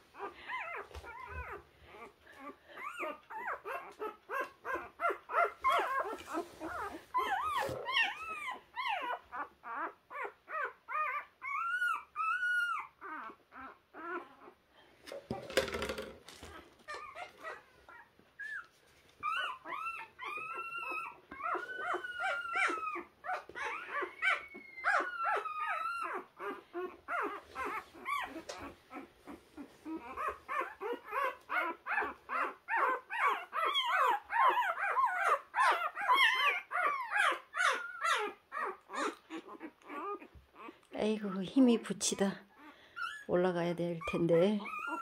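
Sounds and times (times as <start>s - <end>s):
puppies whimpering and squealing: 0.1s - 14.6s, 16.4s - 45.0s.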